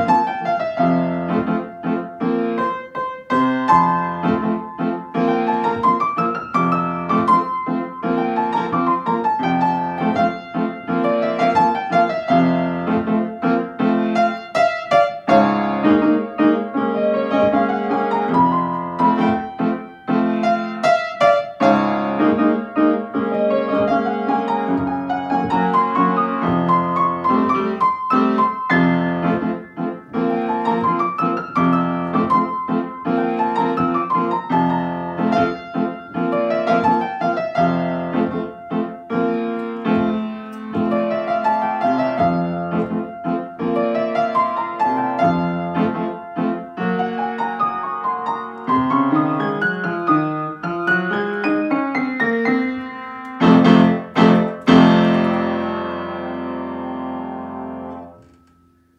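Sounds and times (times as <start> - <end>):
loud ringing piano chords: 0.0 - 58.9
solo piano piece: 0.0 - 58.9.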